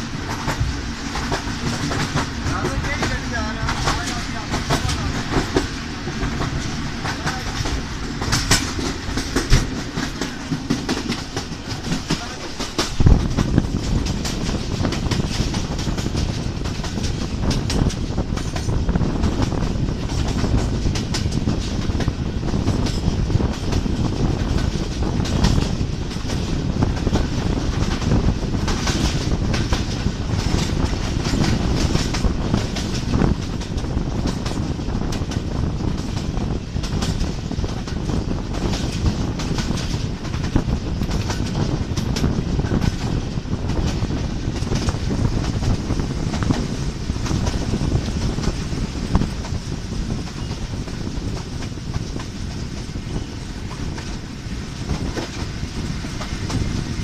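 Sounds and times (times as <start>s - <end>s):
train wheels rumbling on track: 0.0s - 57.0s
wheels clattering over rails: 0.0s - 57.0s.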